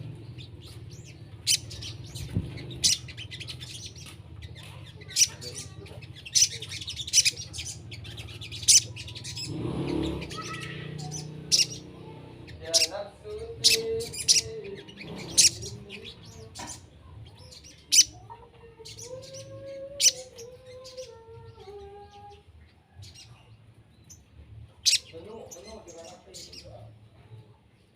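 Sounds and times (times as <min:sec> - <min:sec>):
birds chirping sharply: 0:00.0 - 0:27.9.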